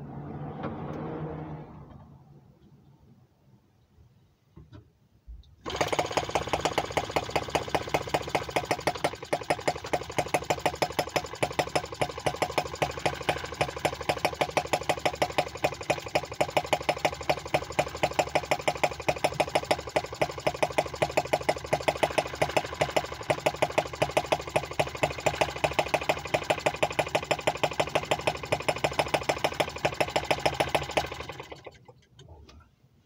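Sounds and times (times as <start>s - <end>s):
model engine clattering: 5.6s - 32.2s.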